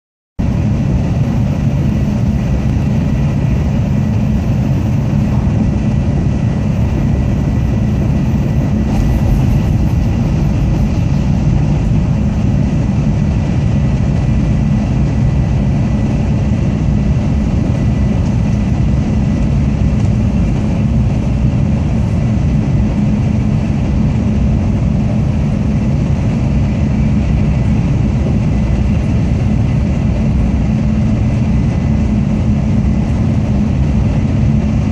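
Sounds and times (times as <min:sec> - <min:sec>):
train wheels rumbling on rail: 0:00.4 - 0:34.9.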